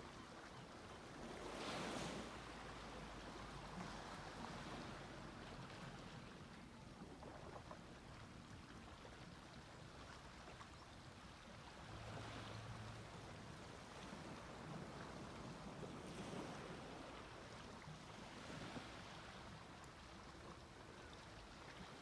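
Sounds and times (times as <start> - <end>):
gentle sea waves on beach: 0.0 - 22.0.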